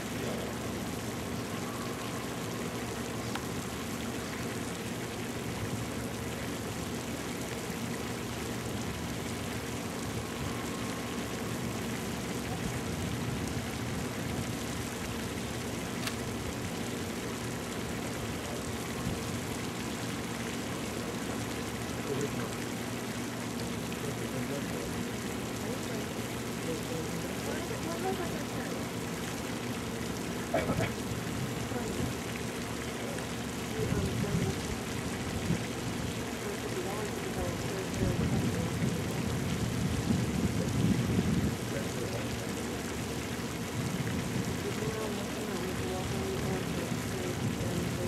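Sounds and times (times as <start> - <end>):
constant hiss: 0.0 - 48.0.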